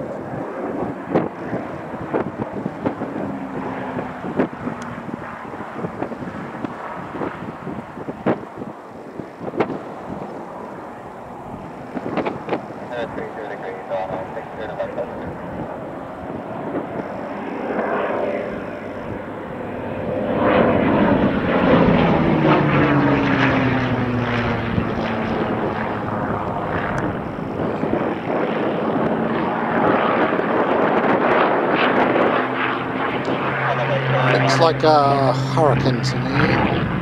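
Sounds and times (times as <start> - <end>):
propeller aircraft engine passing: 0.0 - 37.0.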